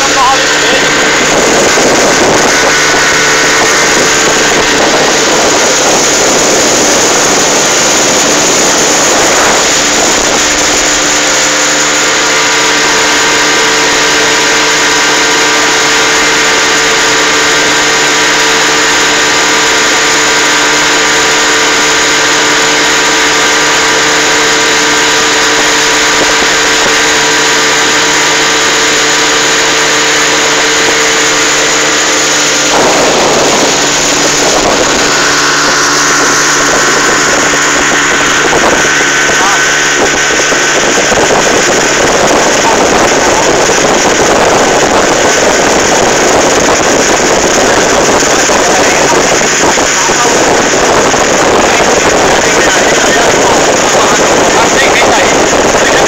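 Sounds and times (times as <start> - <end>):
boat motor running: 0.0 - 56.0
water rushing past hull: 0.0 - 56.0.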